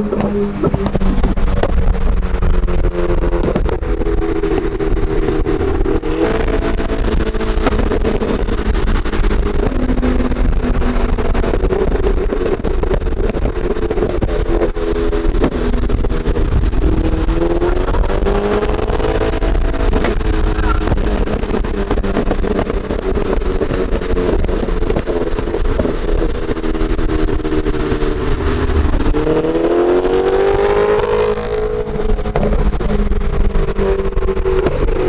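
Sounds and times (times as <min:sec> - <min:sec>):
car engine running: 0:00.0 - 0:35.0
road rumble: 0:00.0 - 0:35.0.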